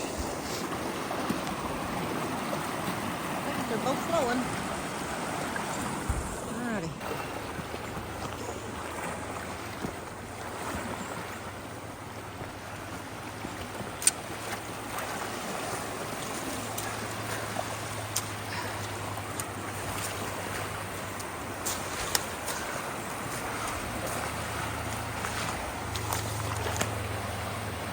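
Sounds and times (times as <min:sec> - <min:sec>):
creek water rushing through culverts: 0:00.0 - 0:27.9.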